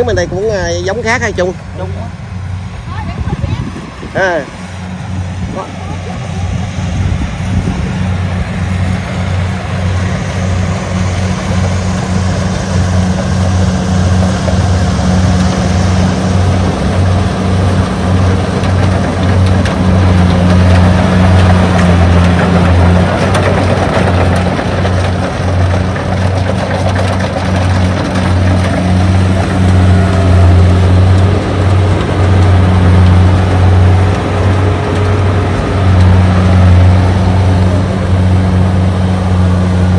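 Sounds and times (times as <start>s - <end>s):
diesel engine hum: 0.0s - 39.9s.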